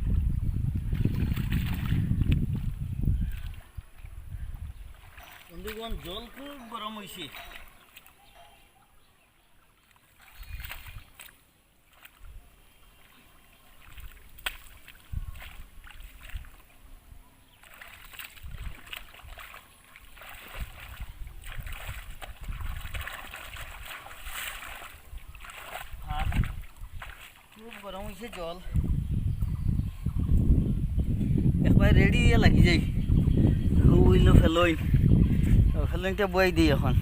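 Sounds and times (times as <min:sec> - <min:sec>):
muddy water sloshing and splashing: 0:00.8 - 0:29.1, 0:33.8 - 0:36.8.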